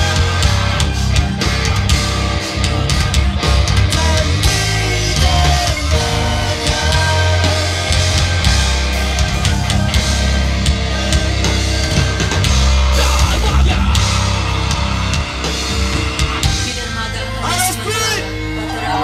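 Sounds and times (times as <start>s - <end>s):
drums: 0.0s - 19.0s
electric guitars: 0.0s - 19.0s
heavy bass: 0.0s - 19.0s.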